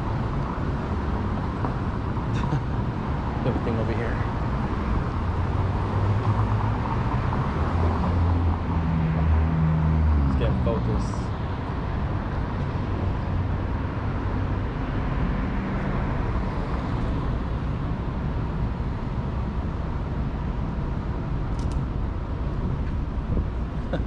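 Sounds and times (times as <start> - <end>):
low rumble of car engines: 0.0 - 24.0.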